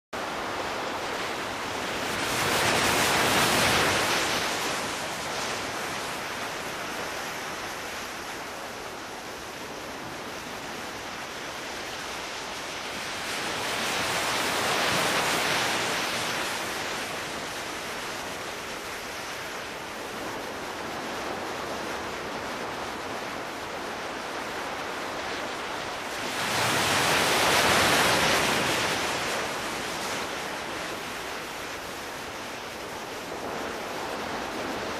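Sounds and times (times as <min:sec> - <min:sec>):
surf breaking on beach: 0:00.2 - 0:34.9.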